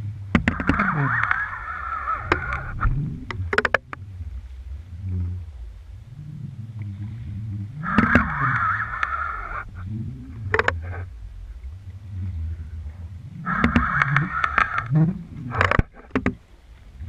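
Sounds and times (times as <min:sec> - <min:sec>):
low underwater rumble: 0:00.0 - 0:17.0
rough grinding noise: 0:00.0 - 0:17.0.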